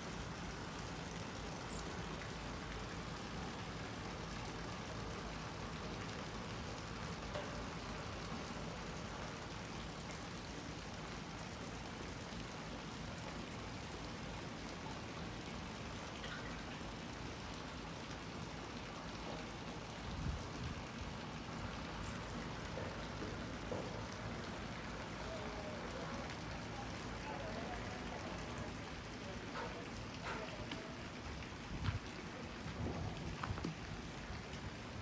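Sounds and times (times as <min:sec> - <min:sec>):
rain-like outdoor hiss: 0:00.0 - 0:35.0.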